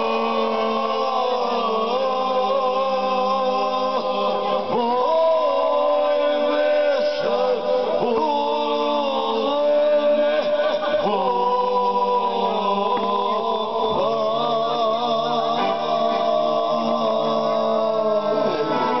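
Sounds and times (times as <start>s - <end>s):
men singing into microphones: 0.0s - 19.0s.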